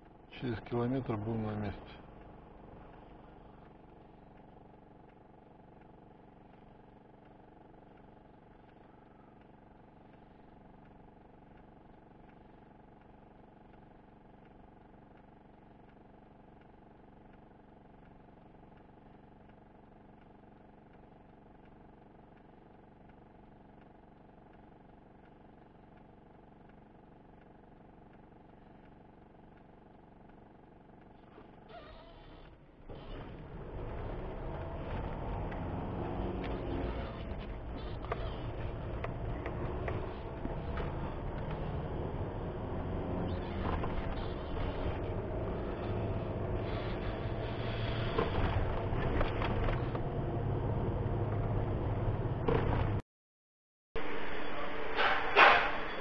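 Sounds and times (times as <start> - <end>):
faint car engine idling: 0.0 - 52.5.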